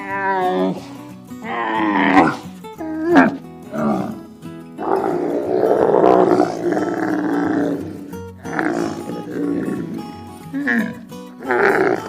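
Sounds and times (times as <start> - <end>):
background music: 0.0 - 12.0
giraffe calling: 0.0 - 12.0.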